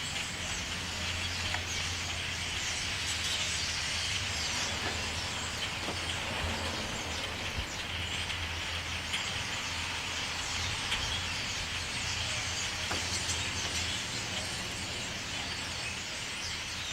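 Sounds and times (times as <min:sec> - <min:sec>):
flock of birds chirping: 0:00.0 - 0:16.9.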